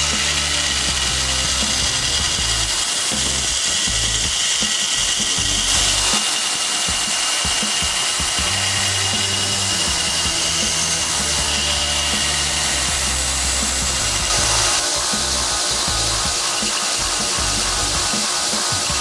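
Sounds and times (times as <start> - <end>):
background music: 0.0 - 19.0
power tool running: 0.0 - 19.0.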